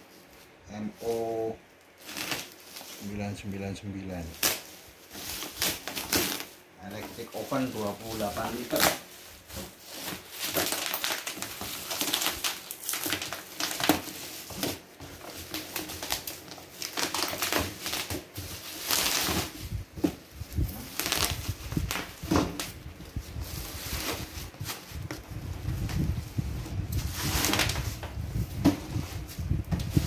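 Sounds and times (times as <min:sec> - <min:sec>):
bubble wrap rustling and crinkling: 0:00.0 - 0:30.0.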